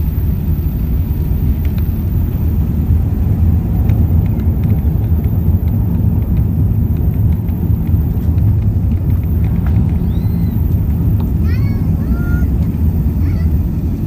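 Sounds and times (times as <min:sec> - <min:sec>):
jet engines rumbling: 0:00.0 - 0:14.0
faint ticks and rattles: 0:01.5 - 0:13.4.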